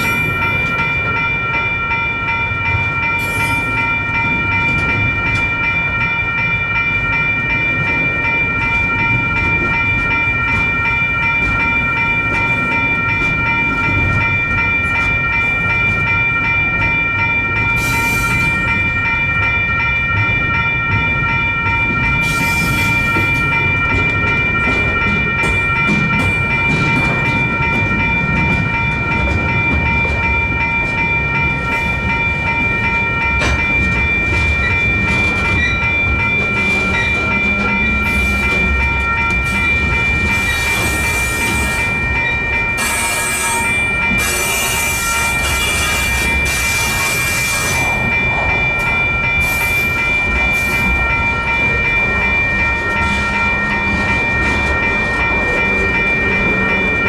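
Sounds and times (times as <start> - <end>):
freight train rumbling: 0.0 - 57.0
railroad crossing bells ringing: 0.0 - 57.0
train wheel clacks: 0.0 - 57.0.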